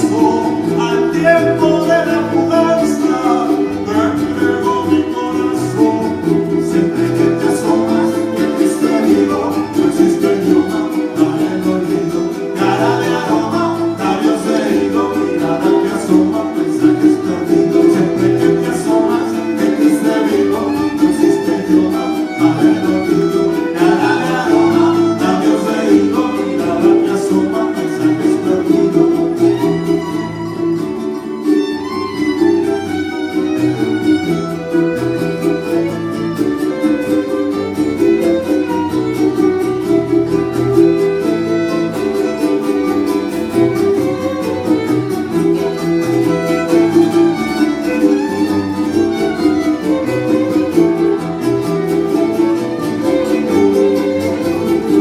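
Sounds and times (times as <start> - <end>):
guitar: 0.0 - 55.0
violin: 0.0 - 55.0.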